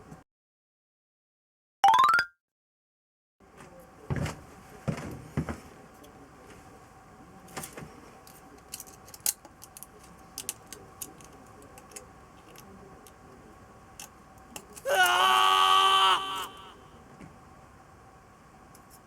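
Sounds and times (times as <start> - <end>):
faint steady hum: 3.5 - 19.0.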